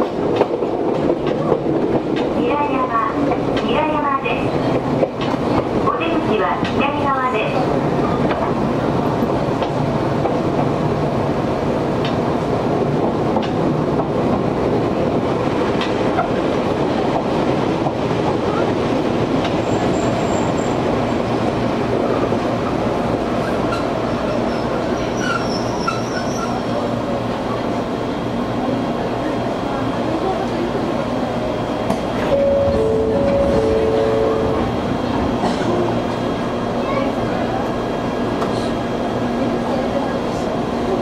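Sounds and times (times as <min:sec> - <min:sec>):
rail joint clicks and clanks: 0:00.0 - 0:41.0
train wheel and track rumble: 0:00.0 - 0:41.0.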